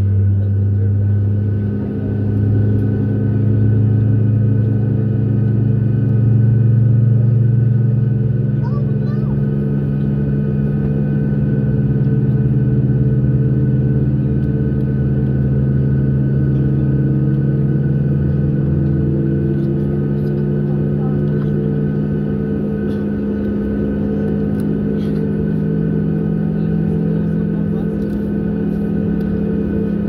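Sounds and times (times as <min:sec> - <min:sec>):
jet engine hum: 0:00.0 - 0:30.0
low rumble: 0:00.0 - 0:30.0.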